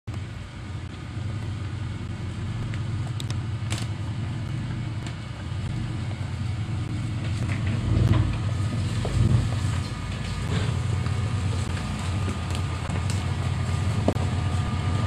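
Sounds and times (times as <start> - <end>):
engine rumbling while driving: 0.0 - 15.0.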